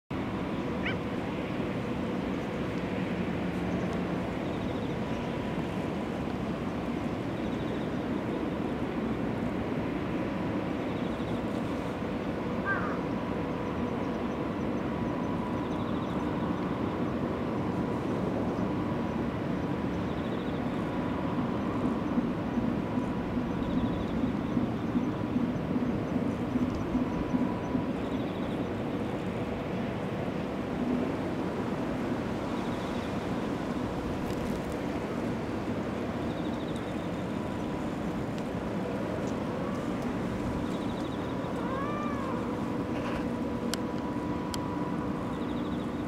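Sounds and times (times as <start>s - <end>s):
rumble of distant vehicles: 0.1s - 46.0s
faint hum: 0.2s - 46.0s.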